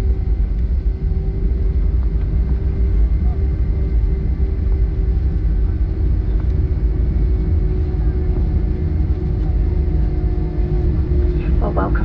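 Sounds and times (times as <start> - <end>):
steady cabin hum: 0.0 - 12.0.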